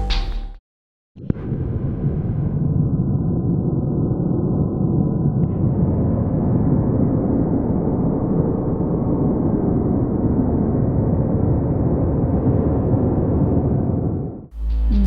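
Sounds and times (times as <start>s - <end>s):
low rumble: 1.2s - 15.0s.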